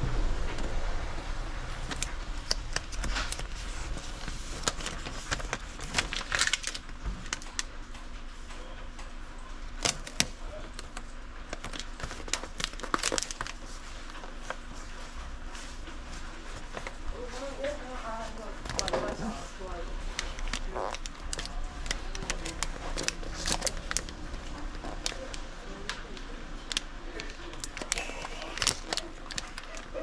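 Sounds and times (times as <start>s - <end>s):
paper labels crinkling and rustling: 1.6s - 30.0s.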